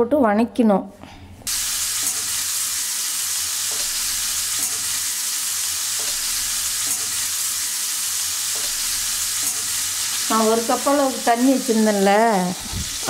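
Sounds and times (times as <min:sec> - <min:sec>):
oil sizzling in a frying pan: 0:01.5 - 0:13.0.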